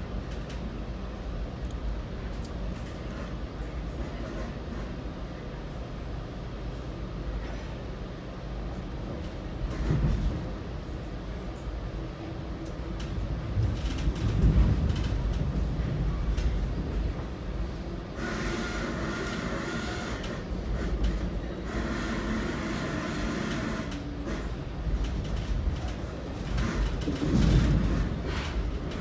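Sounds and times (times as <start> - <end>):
rails rushing noise: 0.0 - 29.0
train rumbling on track: 0.0 - 29.0.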